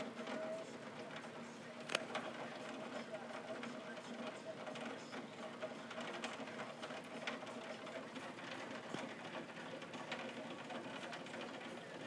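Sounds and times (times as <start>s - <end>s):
torrential rain pattering: 0.1s - 12.0s.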